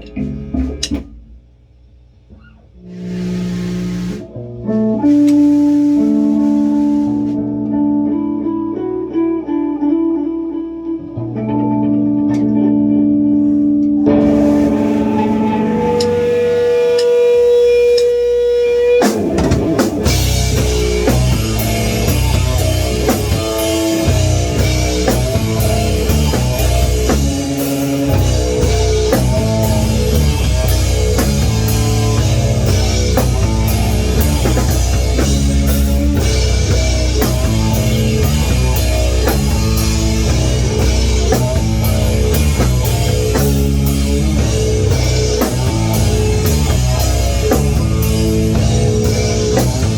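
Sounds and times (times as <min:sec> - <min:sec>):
rock band playing: 0:02.8 - 0:10.4, 0:11.4 - 0:49.9
electric guitar chord ringing: 0:02.8 - 0:49.9.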